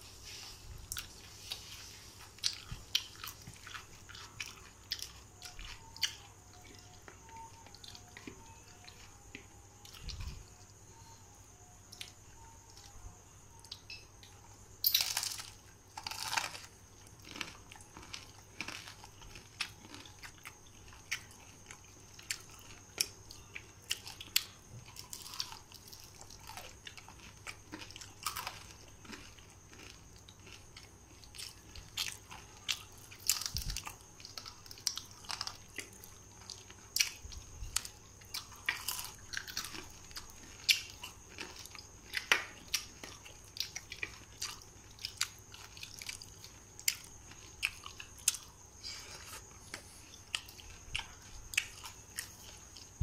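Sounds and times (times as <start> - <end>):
crunchy chewing and biting: 0.0 - 11.1, 11.8 - 53.0.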